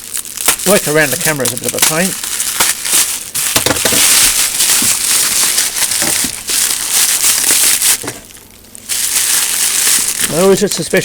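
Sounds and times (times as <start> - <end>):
plastic and bubble wrap crinkling: 0.0 - 11.0.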